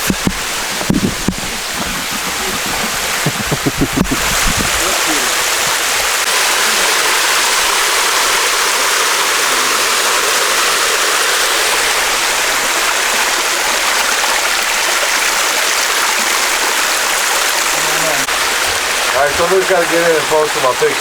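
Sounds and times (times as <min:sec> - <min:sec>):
waterfall rushing into a pool: 0:00.0 - 0:21.0.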